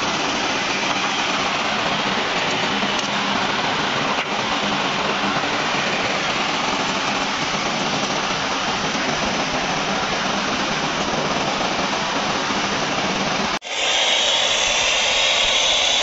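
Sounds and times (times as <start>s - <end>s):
steam rushing hiss: 0.0s - 16.0s.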